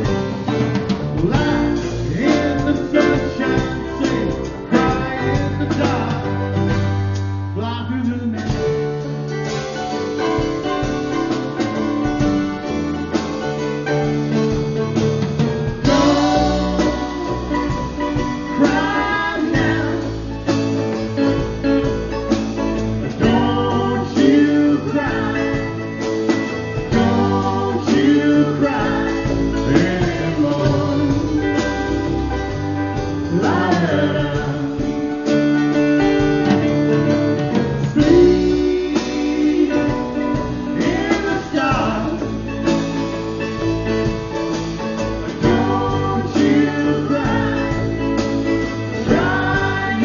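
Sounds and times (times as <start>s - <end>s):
guitar: 0.0s - 50.0s
live acoustic band music: 0.0s - 50.0s
sliding bending melody line: 8.4s - 50.0s.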